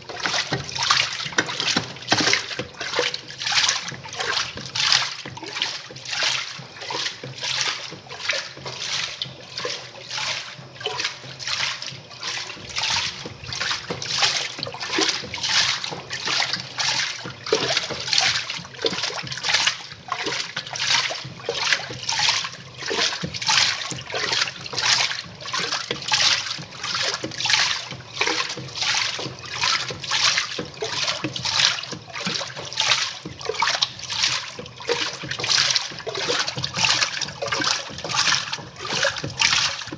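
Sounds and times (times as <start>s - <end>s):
water sloshing in washing machine: 0.0s - 39.9s.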